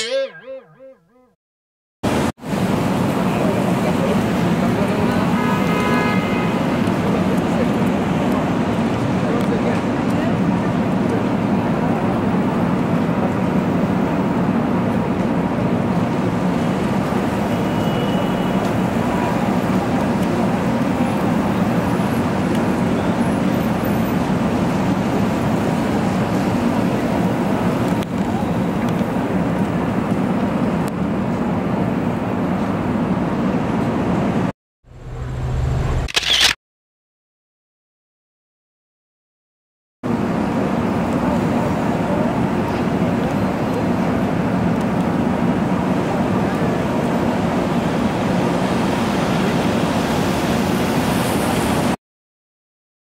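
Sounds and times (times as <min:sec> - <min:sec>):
road traffic noise: 0:02.1 - 0:36.6, 0:40.0 - 0:52.0.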